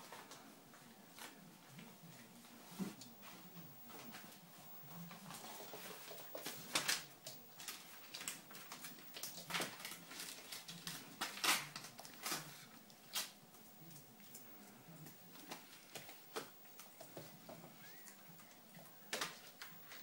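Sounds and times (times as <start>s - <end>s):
puppy rustling newspaper: 2.1s - 20.0s
paper crackles: 2.8s - 20.0s.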